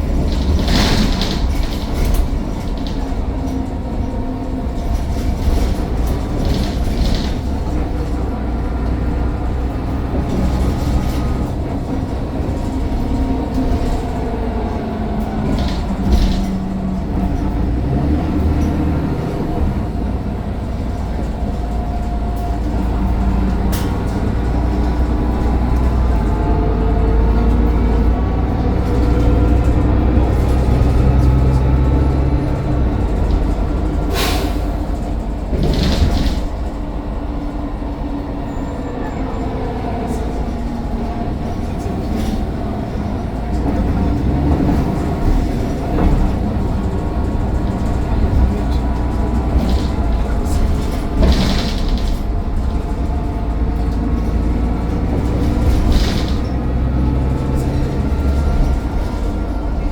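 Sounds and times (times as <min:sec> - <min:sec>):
knocks and rattles: 0:00.0 - 0:38.0, 0:39.5 - 0:59.9
bus diesel engine rumbling: 0:00.0 - 0:59.9.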